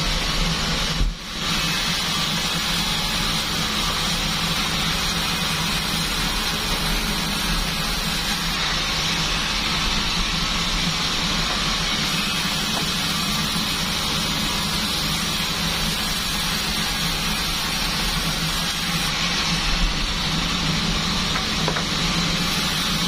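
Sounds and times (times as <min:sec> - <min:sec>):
bandsaw hiss: 0:00.0 - 0:23.0
bandsaw motor hum: 0:00.0 - 0:23.0.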